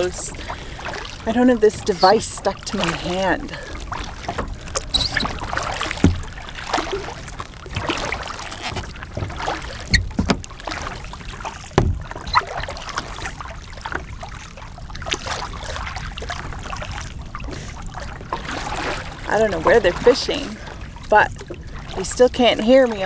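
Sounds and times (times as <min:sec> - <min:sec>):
paddle splashing in water: 0:00.0 - 0:23.0
water lapping at hull: 0:00.0 - 0:23.0
knocks and thumps on kayak: 0:02.0 - 0:16.4, 0:17.4 - 0:21.6.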